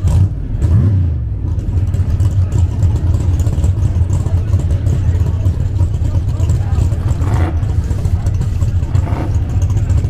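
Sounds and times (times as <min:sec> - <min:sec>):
race car engine rumbling: 0:00.0 - 0:10.0.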